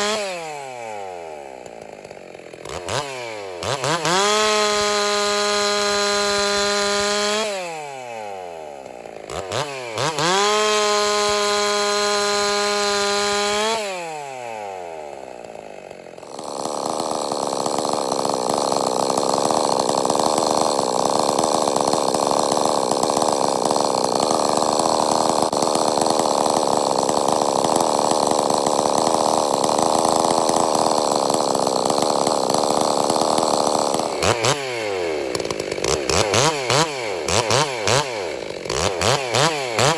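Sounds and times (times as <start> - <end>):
chainsaw cutting through log: 0.0 - 39.9
chainsaw revving: 0.0 - 39.9.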